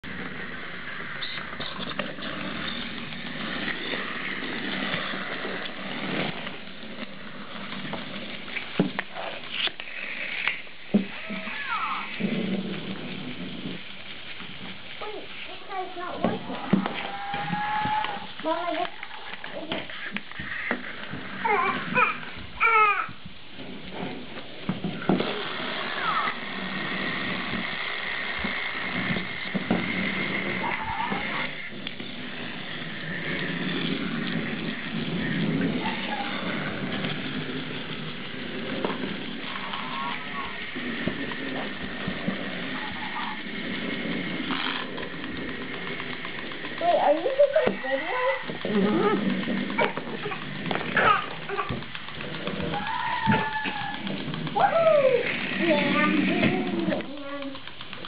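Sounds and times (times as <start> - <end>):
wind-up toy motor whirring: 0.1 - 58.0.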